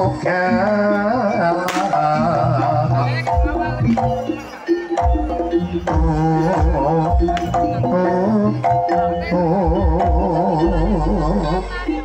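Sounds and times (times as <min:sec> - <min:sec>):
gamelan percussion: 0:00.0 - 0:12.0
wavering ornamented melody: 0:00.0 - 0:12.0.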